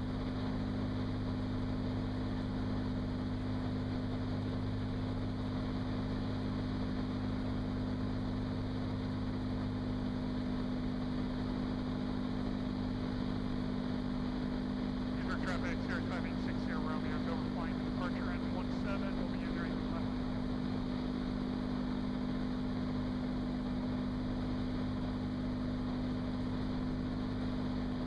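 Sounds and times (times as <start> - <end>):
airplane engine and propeller drone: 0.0 - 28.0.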